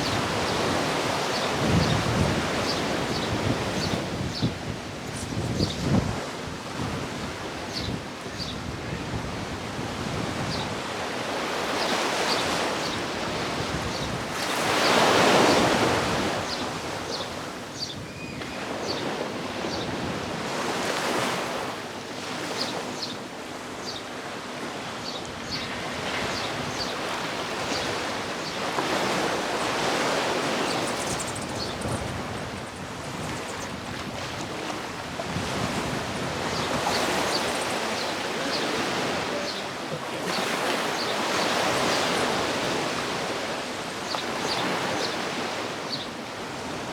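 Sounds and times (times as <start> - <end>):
sea surf breaking on beach: 0.0 - 17.8, 24.2 - 46.9.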